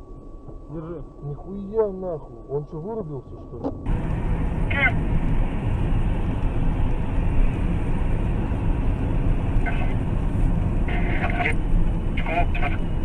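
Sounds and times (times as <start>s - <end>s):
vehicle road and engine rumble: 0.0s - 13.0s.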